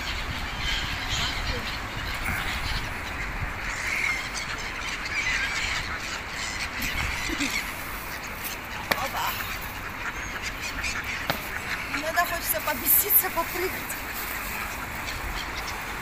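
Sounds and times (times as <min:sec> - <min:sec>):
gulls and ducks calling: 0:00.0 - 0:16.0.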